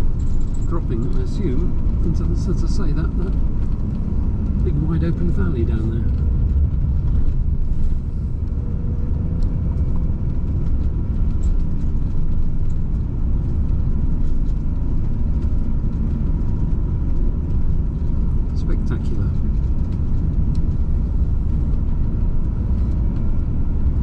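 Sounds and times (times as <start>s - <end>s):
van engine and tyre rumble: 0.0s - 24.0s.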